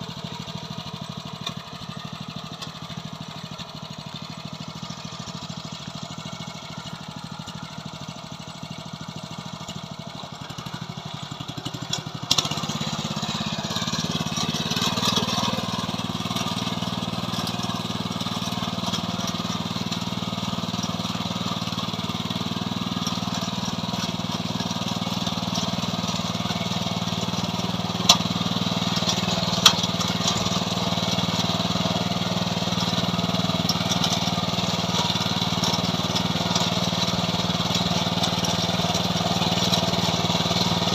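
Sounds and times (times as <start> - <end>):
small tiller engine running: 0.0 - 40.9.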